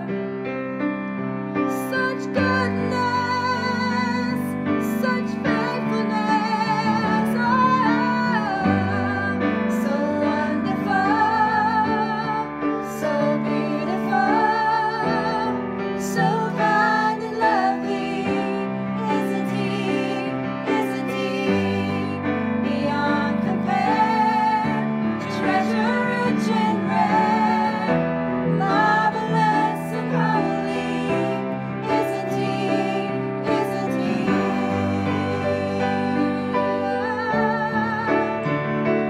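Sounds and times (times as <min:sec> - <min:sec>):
piano accompaniment: 0:00.0 - 0:39.0.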